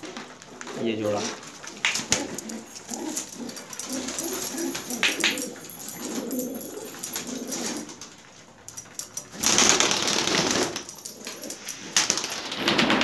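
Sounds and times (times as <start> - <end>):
pigeons cooing: 0.0 - 13.0
loud rustling: 0.2 - 13.0.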